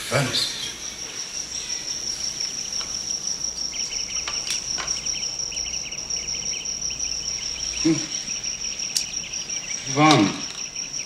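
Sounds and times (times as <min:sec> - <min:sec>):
chorus of rapid insect chirps: 0:00.0 - 0:11.0
high steady insect trill: 0:00.0 - 0:11.0.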